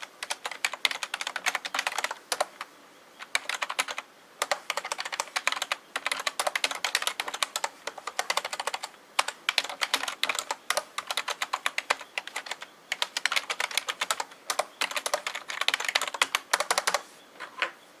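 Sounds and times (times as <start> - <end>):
fast keyboard typing: 0.0 - 17.0.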